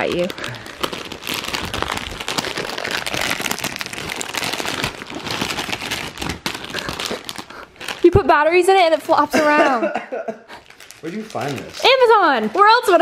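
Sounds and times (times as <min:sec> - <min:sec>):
plastic packaging crinkling: 0:00.0 - 0:09.4, 0:10.5 - 0:13.0.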